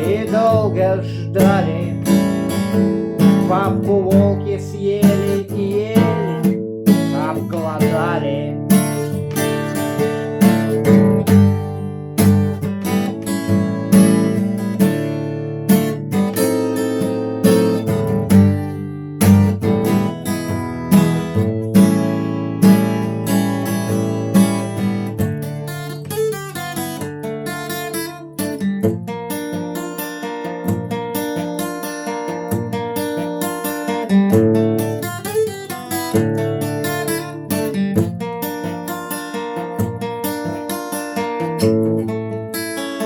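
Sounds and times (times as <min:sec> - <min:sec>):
acoustic guitar strumming chords: 0:00.0 - 0:43.0.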